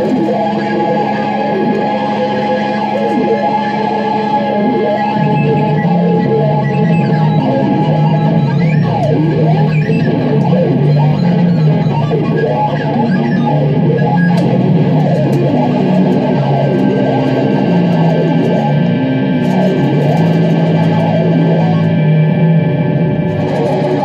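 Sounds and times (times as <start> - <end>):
scratchy crackle: 0.0 - 21.9
electric guitar sliding notes: 0.0 - 24.0.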